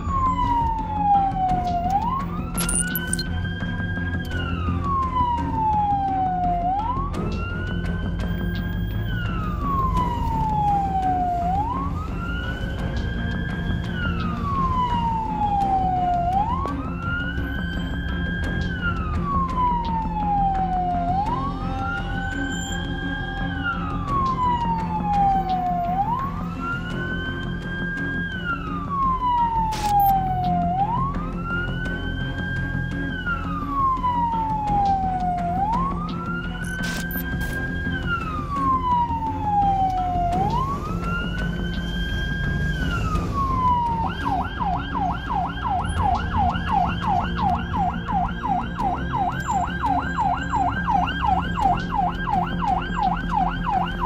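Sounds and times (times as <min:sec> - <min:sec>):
ambulance siren wailing: 0:00.0 - 0:54.0
engine and traffic rumble: 0:00.0 - 0:54.0.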